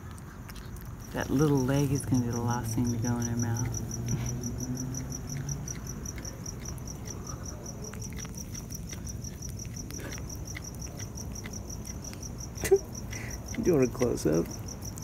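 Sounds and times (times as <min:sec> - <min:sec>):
cat chewing wet crunching: 0:00.0 - 0:15.0
cricket chirping: 0:00.0 - 0:15.0.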